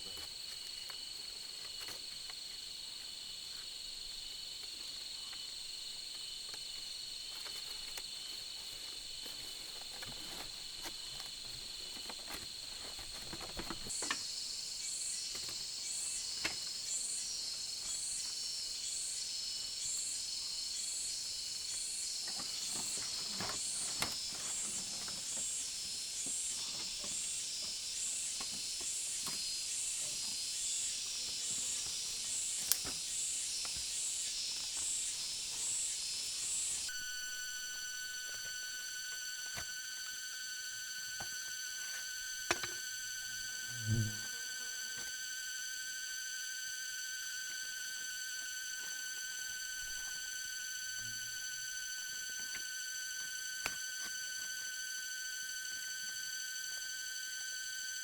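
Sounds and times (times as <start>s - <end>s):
insects trilling: 0.0s - 58.0s
pulsing insect call: 0.0s - 58.0s.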